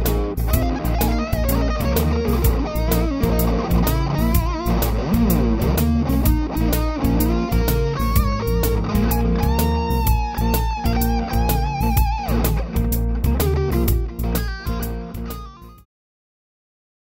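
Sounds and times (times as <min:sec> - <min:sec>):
rock music: 0:00.0 - 0:15.8.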